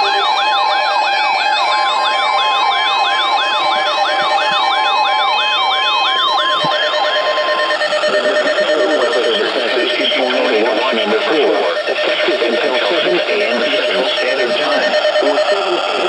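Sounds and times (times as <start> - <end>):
steady warning alarm tone: 0.0 - 16.0
sweeping siren alert: 0.0 - 16.0.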